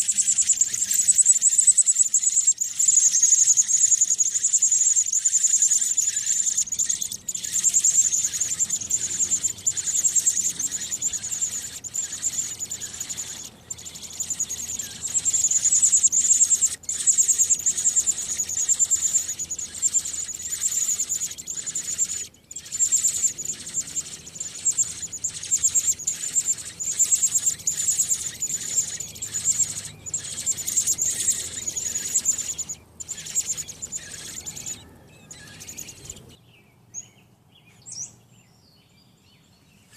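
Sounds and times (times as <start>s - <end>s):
nestlings peeping: 0.0s - 38.3s.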